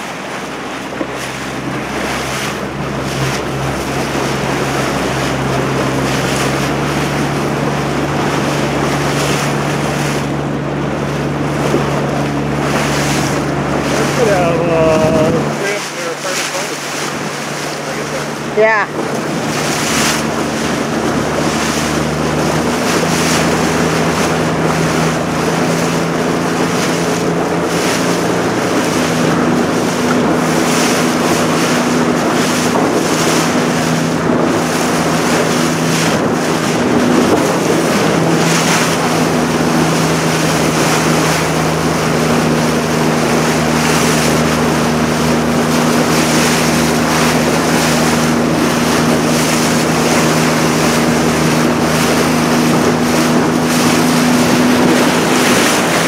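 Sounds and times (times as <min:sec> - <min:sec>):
motorboat engine humming: 0:00.0 - 0:56.0
water rushing along hull: 0:00.0 - 0:56.0
wind buffeting microphone: 0:00.0 - 0:56.0.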